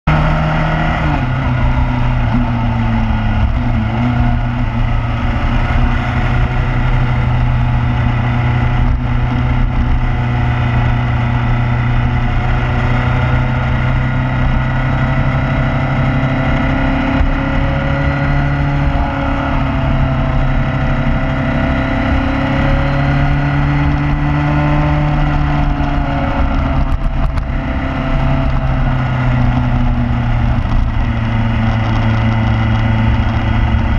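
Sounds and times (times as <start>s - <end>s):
motorcycle engine cruising: 0.0s - 33.9s
wind on microphone: 0.1s - 33.9s.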